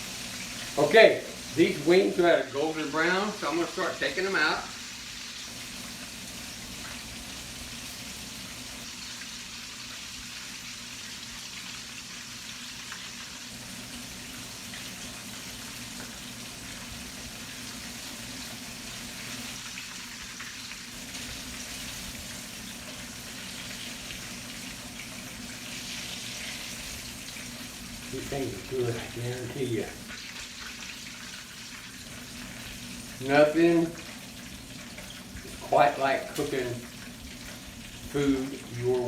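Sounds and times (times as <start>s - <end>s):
chicken wings sizzling in oil: 0.0s - 39.0s.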